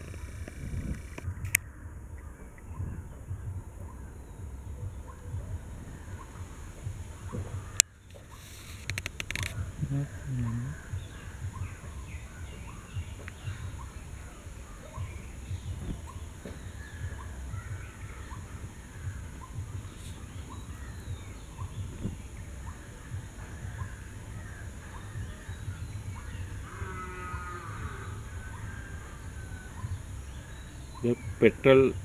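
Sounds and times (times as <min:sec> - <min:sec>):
faint bird chirps: 0:00.0 - 0:32.0
low fluttering rumble: 0:00.0 - 0:32.0.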